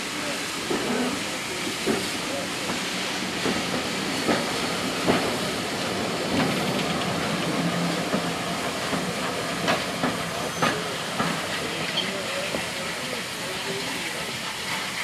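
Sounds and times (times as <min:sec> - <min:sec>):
steam hissing: 0:00.0 - 0:15.0.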